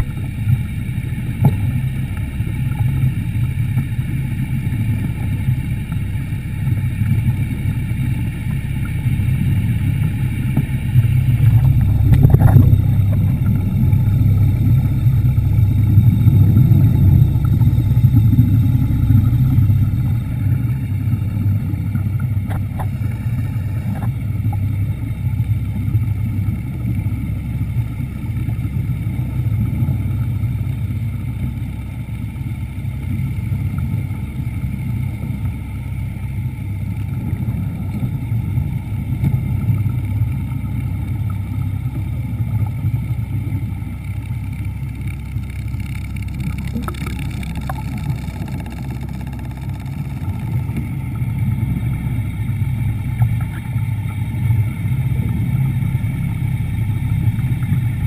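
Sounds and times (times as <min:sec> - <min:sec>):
underwater scooter motor humming: 0:00.0 - 0:58.0.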